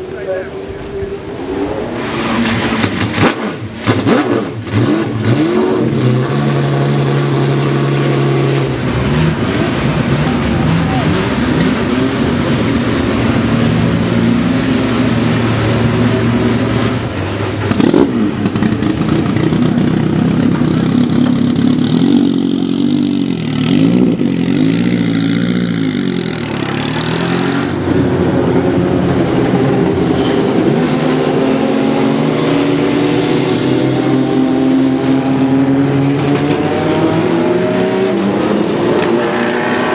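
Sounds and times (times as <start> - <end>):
race car engines running: 0.0 - 39.9.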